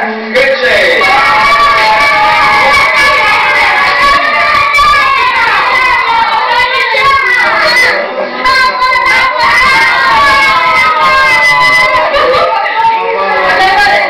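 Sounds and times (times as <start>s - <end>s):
children singing: 1.0s - 14.0s.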